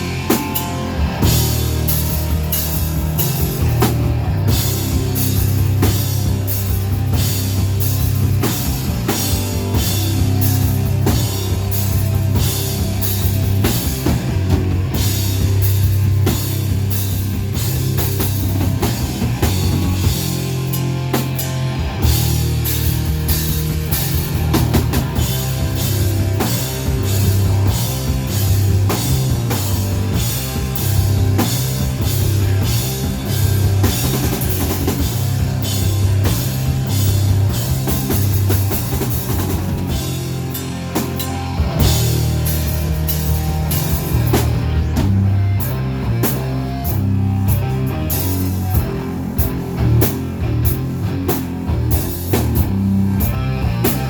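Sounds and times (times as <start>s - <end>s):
drum kit beat: 0.0s - 54.0s
heavy bass line: 0.0s - 54.0s.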